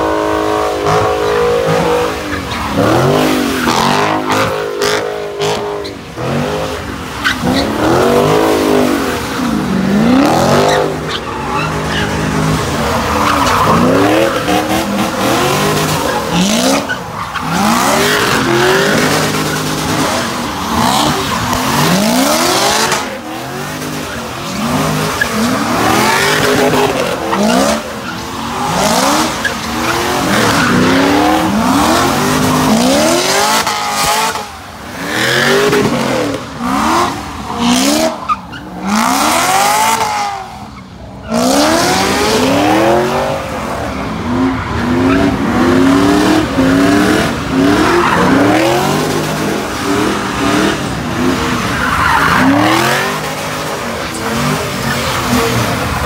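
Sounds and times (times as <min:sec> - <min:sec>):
car engine revving: 0:00.0 - 0:56.0
tires screeching: 0:00.0 - 0:56.0.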